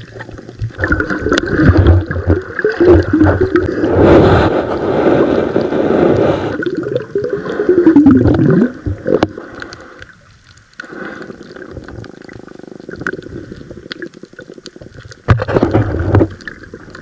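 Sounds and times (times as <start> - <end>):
underwater gurgling: 0.0 - 17.0.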